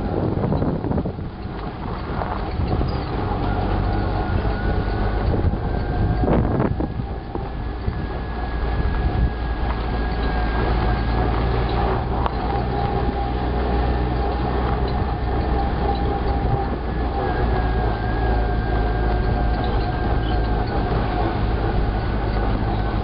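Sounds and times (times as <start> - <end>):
utility vehicle engine running: 0.0 - 23.0.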